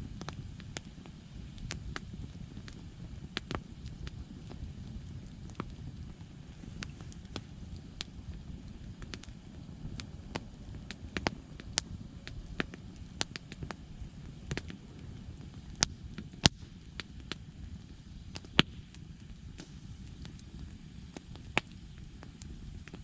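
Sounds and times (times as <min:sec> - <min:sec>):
campfire crackling and popping: 0:00.0 - 0:23.0
steady low rumble: 0:00.0 - 0:23.0.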